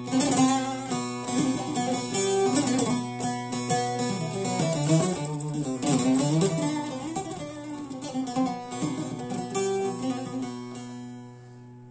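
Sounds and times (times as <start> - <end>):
plucked long-necked lute melody: 0.0 - 11.9.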